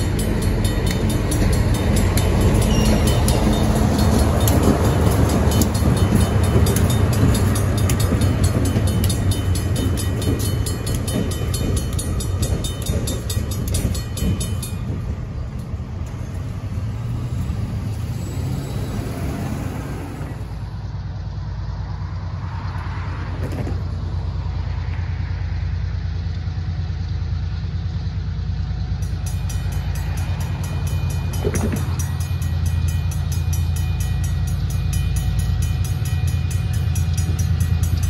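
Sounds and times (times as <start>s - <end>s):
crossing bell ringing: 0.0s - 20.7s, 26.2s - 38.0s
diesel locomotive rumble: 0.0s - 38.0s.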